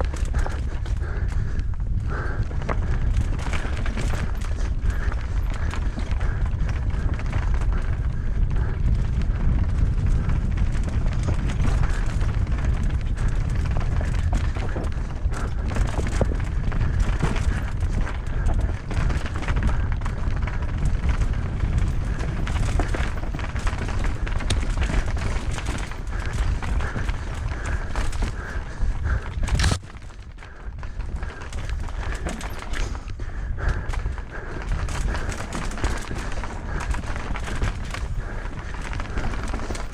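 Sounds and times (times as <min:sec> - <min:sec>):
bike rattling over rocks: 0:00.0 - 0:39.9
wind rumble on microphone: 0:00.0 - 0:39.9.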